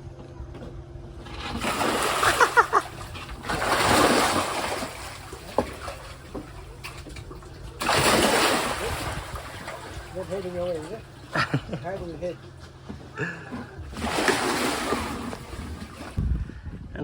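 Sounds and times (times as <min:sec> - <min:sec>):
water splashing: 0:01.2 - 0:12.6, 0:13.2 - 0:16.2.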